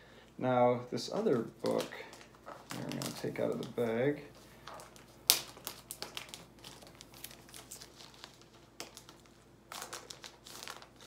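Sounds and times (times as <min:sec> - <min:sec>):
plastic bag crinkling: 0:01.0 - 0:11.0.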